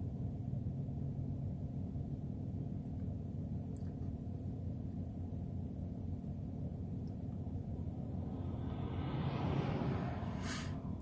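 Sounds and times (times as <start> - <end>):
car cabin engine and road rumble: 0.0 - 11.0.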